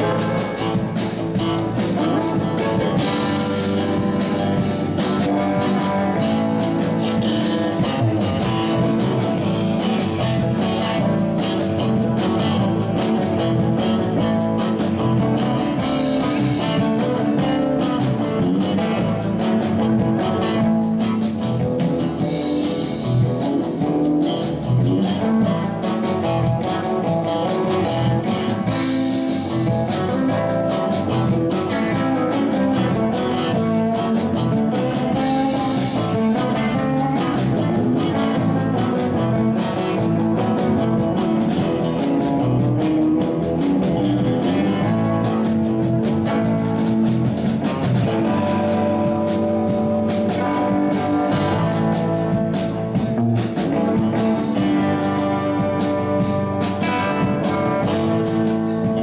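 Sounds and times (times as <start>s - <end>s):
bass guitar: 0.0s - 59.0s
drum kit with cymbals: 0.0s - 59.0s
electric guitar: 0.0s - 59.0s
live rock band playing: 0.0s - 59.0s.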